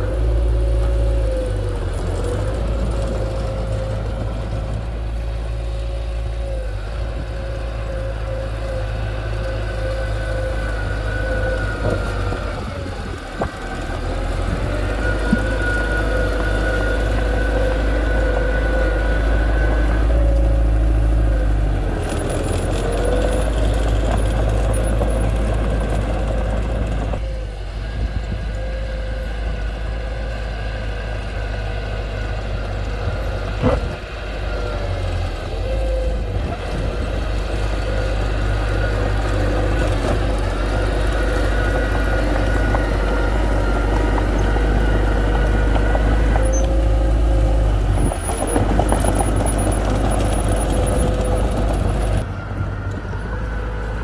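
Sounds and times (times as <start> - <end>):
diesel machinery engine drone: 0.0 - 54.0
wavering whine: 0.0 - 54.0.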